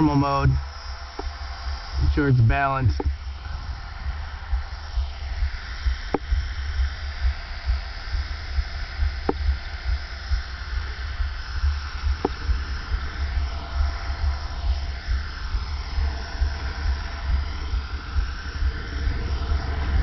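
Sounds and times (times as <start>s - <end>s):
rc helicopter rotor whine: 0.0s - 20.0s
wind rumble on microphone: 0.0s - 20.0s.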